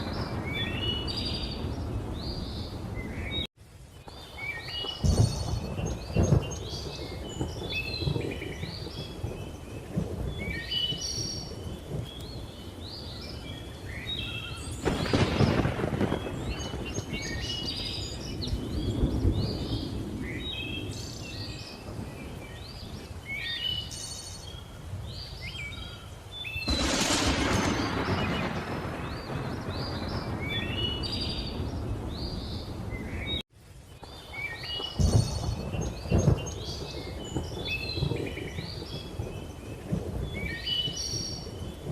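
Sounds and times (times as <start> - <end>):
thunder rumbling: 0.0 - 3.5, 4.3 - 23.4, 26.6 - 33.4, 34.3 - 41.9.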